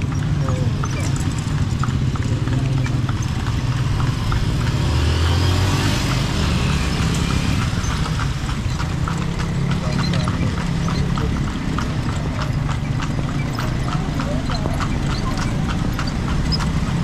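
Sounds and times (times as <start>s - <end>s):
carriage low rumble: 0.0s - 17.0s
horse hooves clip-clopping: 0.0s - 17.0s
motor vehicle hum: 0.0s - 17.0s.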